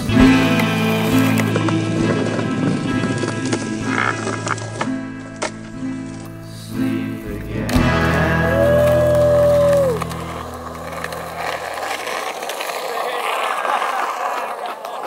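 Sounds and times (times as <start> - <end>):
skateboard wheels on rough concrete: 0.0 - 15.0.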